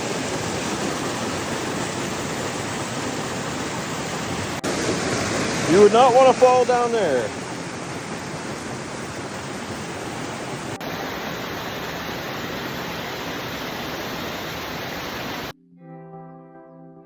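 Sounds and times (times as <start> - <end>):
waterfall roaring: 0.0 - 15.5.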